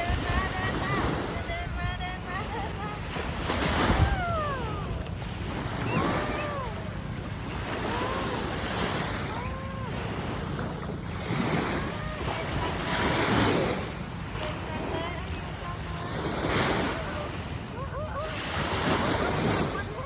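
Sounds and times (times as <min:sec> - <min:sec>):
sea surf washing on beach: 0:00.0 - 0:20.0
wind buffeting microphone: 0:00.0 - 0:20.0.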